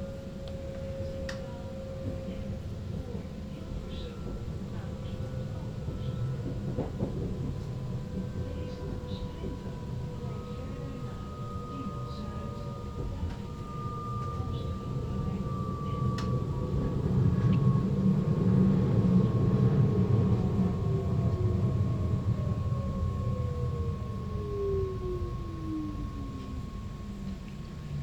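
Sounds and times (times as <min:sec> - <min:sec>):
low tone gliding downward: 0:00.0 - 0:28.0
train wheels rumbling on track: 0:00.0 - 0:28.0.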